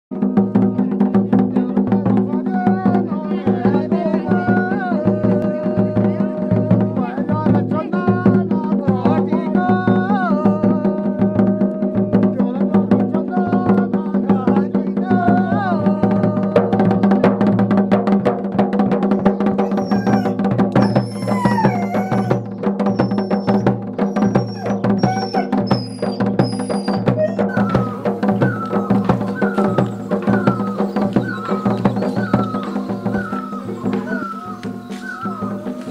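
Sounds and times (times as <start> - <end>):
steady drum beat: 0.1 - 35.9.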